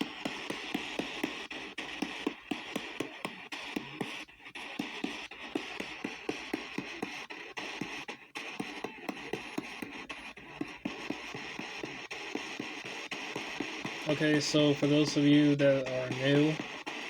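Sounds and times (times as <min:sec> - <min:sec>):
radio blips and clicks: 0:00.0 - 0:17.0
radio hiss: 0:00.0 - 0:17.0.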